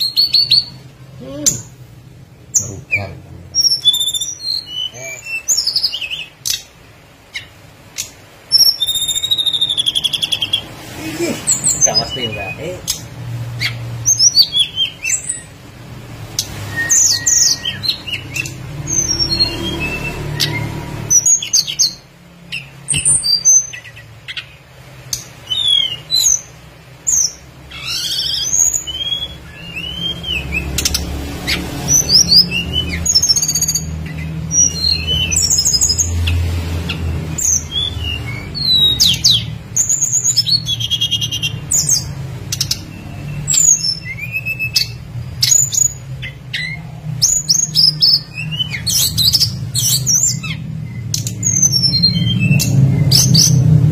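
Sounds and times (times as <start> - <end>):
songbird chirping and trilling: 0.0 - 53.9.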